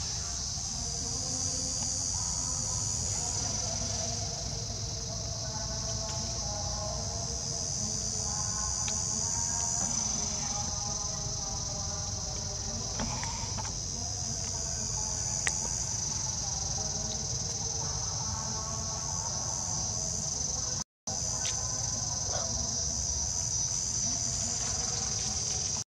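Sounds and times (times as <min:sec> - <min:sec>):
insects chorus: 0:00.0 - 0:25.8.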